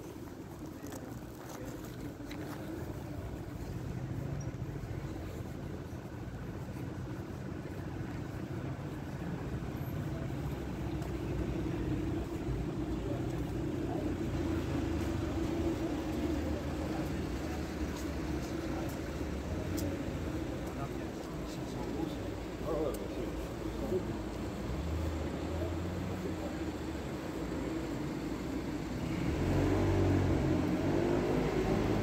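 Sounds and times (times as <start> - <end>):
city background noise: 0.0 - 32.0
motor vehicle rumble: 0.0 - 32.0.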